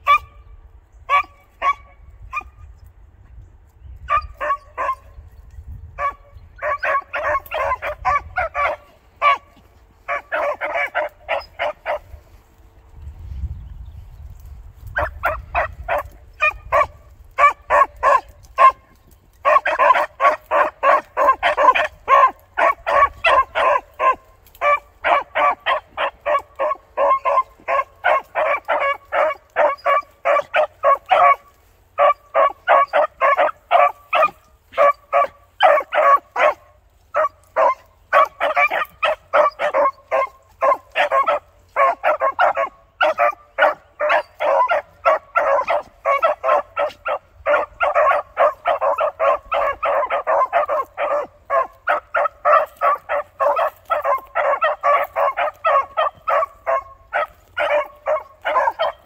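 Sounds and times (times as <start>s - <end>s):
hounds barking: 0.0s - 0.5s, 1.1s - 2.7s, 4.0s - 5.2s, 5.9s - 12.6s, 14.4s - 59.0s.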